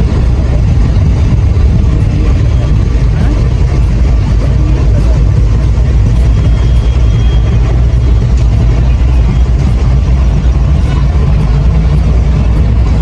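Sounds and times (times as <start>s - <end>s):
large engine rumbling: 0.0s - 13.0s.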